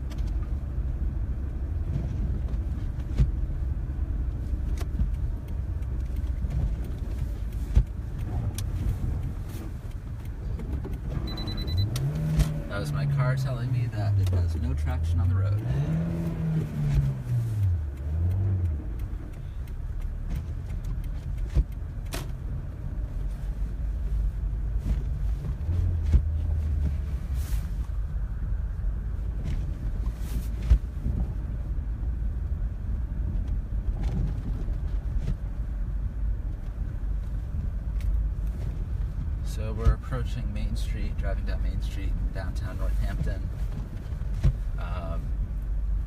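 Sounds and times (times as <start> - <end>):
car engine and tyres rumbling: 0.0 - 46.0.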